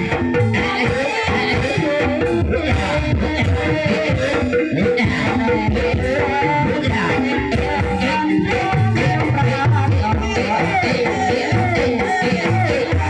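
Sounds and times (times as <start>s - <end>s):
live ensemble music with beat: 0.0s - 13.0s.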